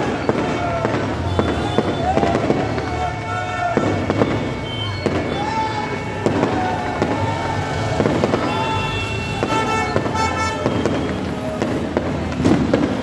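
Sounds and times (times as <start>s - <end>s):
firecrackers bursting: 0.0s - 13.0s.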